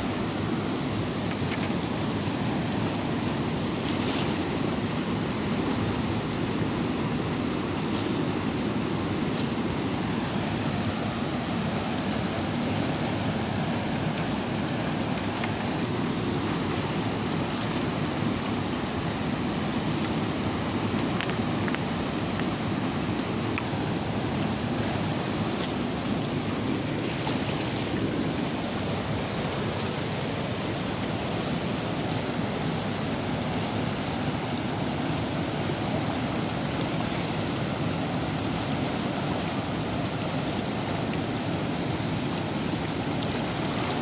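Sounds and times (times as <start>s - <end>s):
water rushing over rocks: 0.0s - 44.0s.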